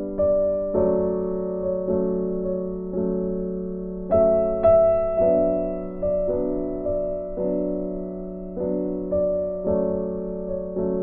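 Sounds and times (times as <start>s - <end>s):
slow gentle piano piece: 0.0s - 11.0s.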